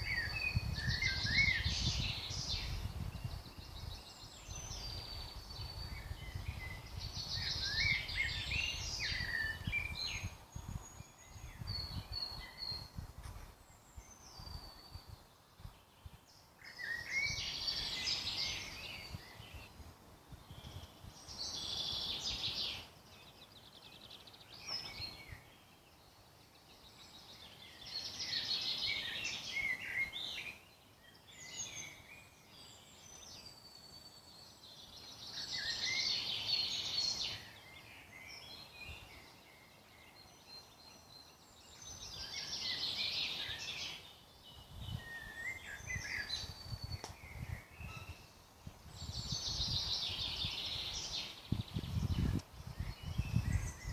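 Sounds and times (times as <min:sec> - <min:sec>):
songbird singing trills: 0:00.0 - 0:13.0, 0:13.6 - 0:53.9.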